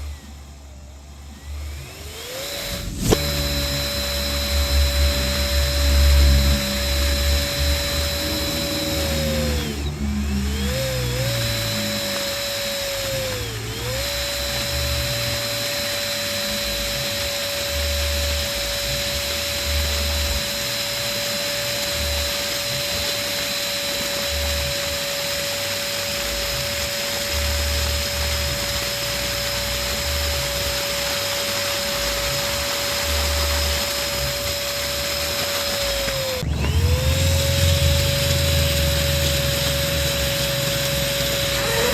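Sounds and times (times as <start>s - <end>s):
electric pump motor whining: 0.0s - 41.9s.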